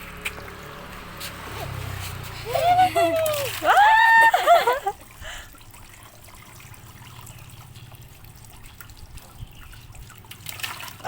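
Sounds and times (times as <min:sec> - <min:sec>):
faint trickling water with drips: 0:00.0 - 0:11.0.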